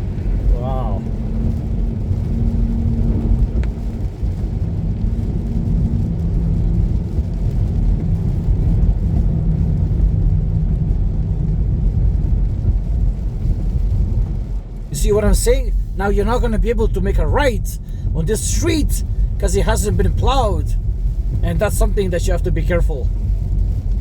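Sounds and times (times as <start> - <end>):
tyres rumbling on slushy road: 0.0 - 24.0.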